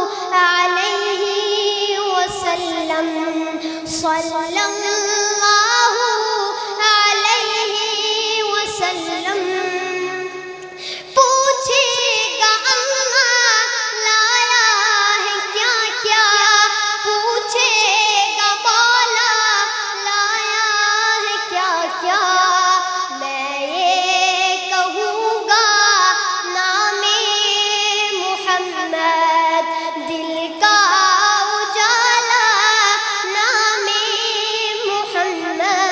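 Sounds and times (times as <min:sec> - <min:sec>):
high voice singing devotional song: 0:00.0 - 0:35.9.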